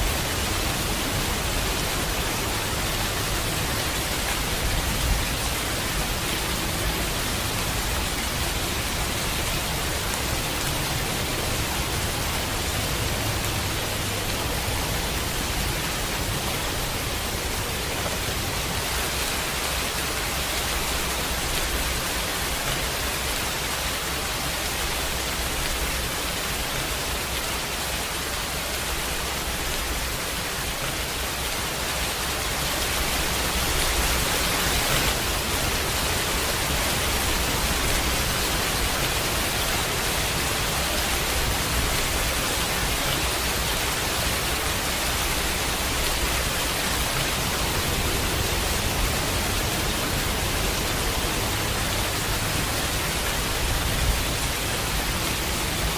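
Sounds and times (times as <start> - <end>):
rain hissing: 0.0 - 55.9.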